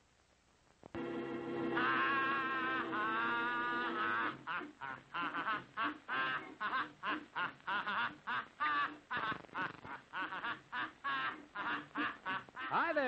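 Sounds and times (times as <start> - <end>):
cartoon bird quacking: 1.8 - 13.0.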